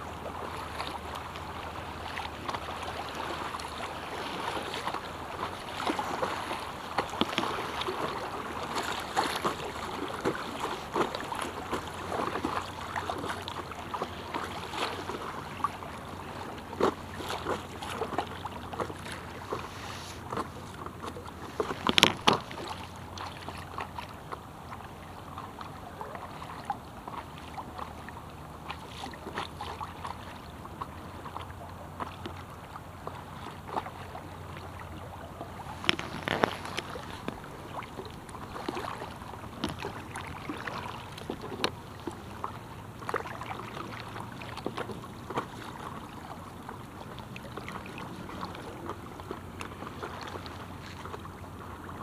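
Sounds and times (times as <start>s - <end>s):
water lapping against paddleboard: 0.0s - 52.0s.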